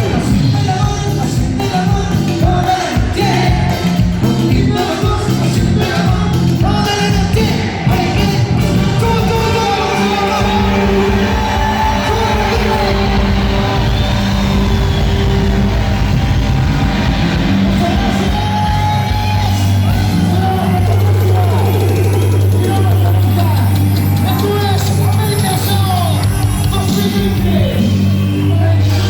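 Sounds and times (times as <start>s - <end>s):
band playing: 0.0s - 29.0s.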